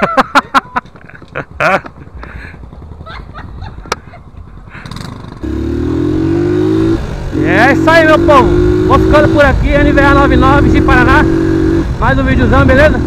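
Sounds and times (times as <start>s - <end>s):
motorcycle engine accelerating: 0.7s - 13.0s.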